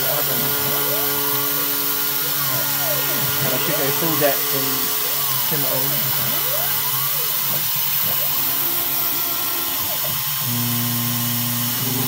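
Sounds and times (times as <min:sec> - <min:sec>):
short rising and falling whines: 0:00.0 - 0:11.2
cnc router milling metal: 0:00.0 - 0:12.0.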